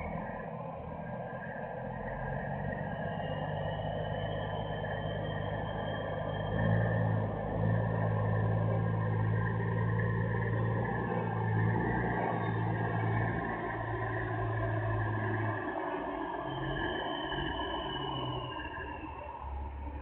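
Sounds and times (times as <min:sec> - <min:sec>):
diesel truck engine drone: 0:00.0 - 0:20.0
road noise: 0:00.0 - 0:20.0.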